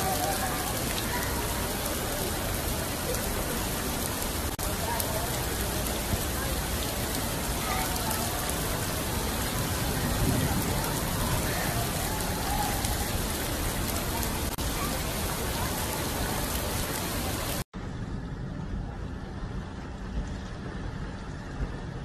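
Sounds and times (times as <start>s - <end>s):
heavy rain on paving: 0.0s - 17.7s.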